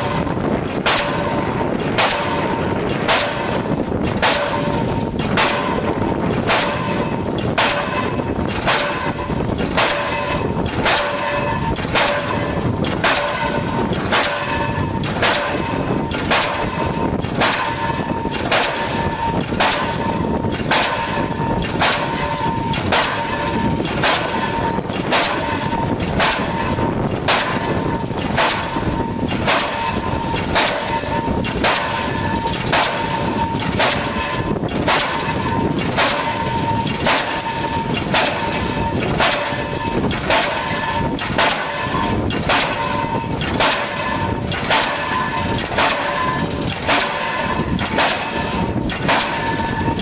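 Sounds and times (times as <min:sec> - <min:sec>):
low rumble: 0:00.0 - 0:50.0
pile hammer banging: 0:00.0 - 0:50.0.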